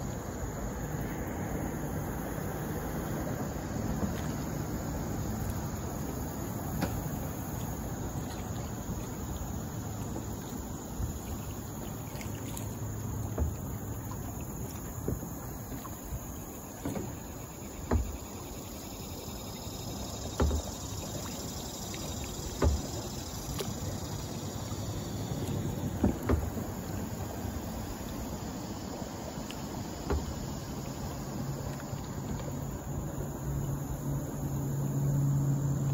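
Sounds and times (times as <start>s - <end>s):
water dripping off paddle: 3.0s - 34.1s
paddle knocking against kayak: 3.3s - 10.3s, 10.9s - 33.4s.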